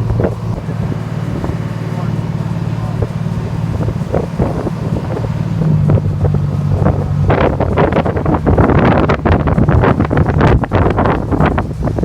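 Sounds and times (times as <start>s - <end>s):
boat engine droning: 0.0s - 12.0s
wind buffeting microphone: 0.0s - 12.0s.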